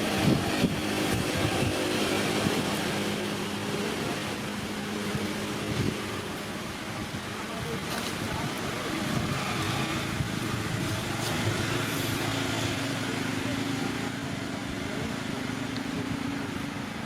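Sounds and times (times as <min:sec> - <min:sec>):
engine running: 0:00.0 - 0:17.0
outdoor background noise: 0:00.0 - 0:17.0.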